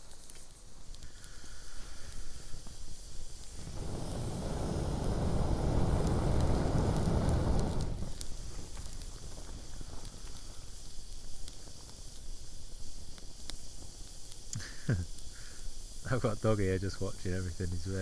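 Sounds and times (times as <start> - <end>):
blowing into embers: 0.0 - 18.0
wood fire crackling: 0.0 - 18.0.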